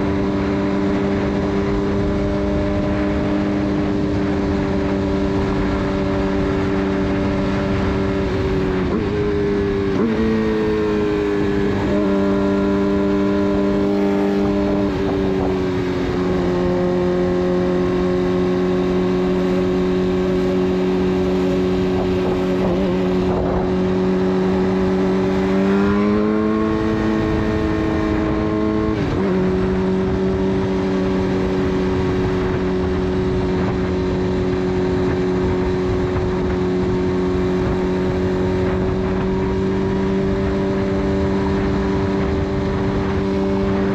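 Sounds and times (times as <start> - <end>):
motorcycle engine cruising: 0.0 - 43.9
wind rush: 0.0 - 43.9.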